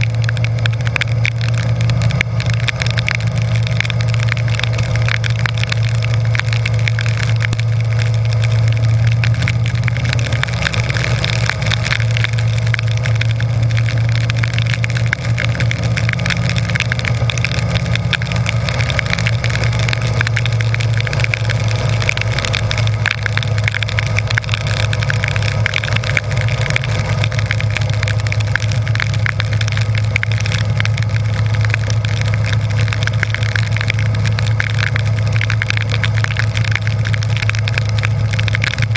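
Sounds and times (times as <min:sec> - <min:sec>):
rain and wind hiss on microphone: 0:00.0 - 0:38.9.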